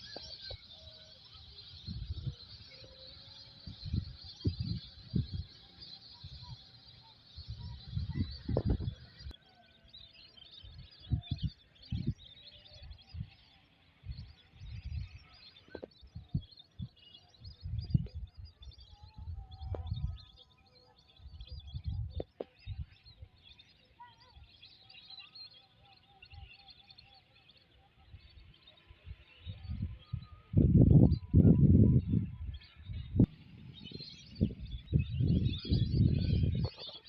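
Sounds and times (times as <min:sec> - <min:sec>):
small birds chirping: 0:00.0 - 0:37.0
whistled bird calls: 0:00.0 - 0:37.0.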